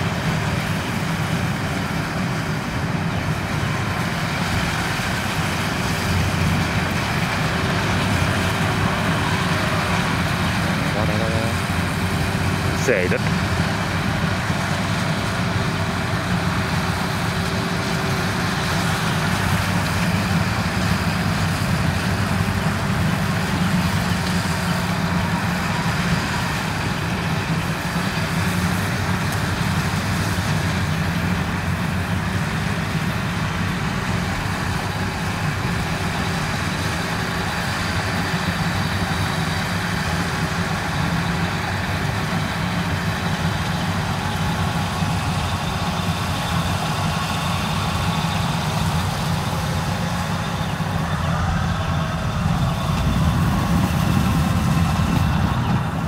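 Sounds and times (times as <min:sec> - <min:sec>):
diesel engine drone: 0:00.0 - 0:56.0
machinery mechanical rush: 0:00.0 - 0:56.0.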